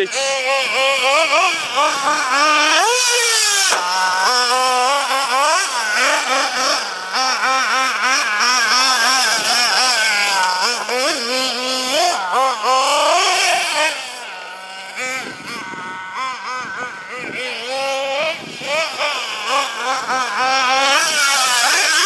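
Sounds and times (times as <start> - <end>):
small nitro engine revving: 0.0 - 22.0.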